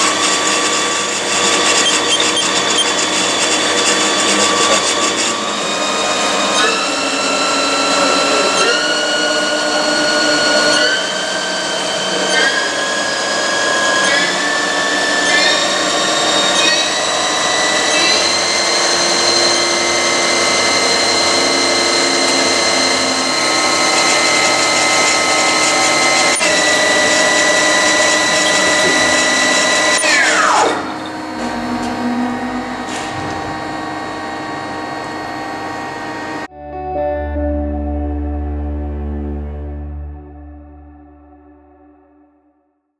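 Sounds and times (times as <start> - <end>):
lathe spindle whine: 0.0 - 36.5.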